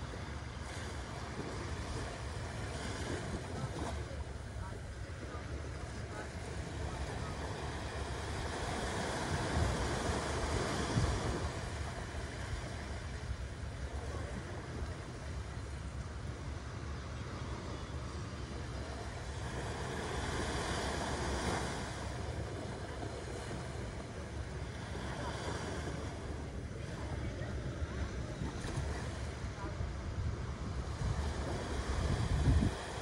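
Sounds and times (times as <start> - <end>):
sea waves breaking on a beach: 0.0 - 33.0
wind rumbling on microphone: 0.0 - 33.0.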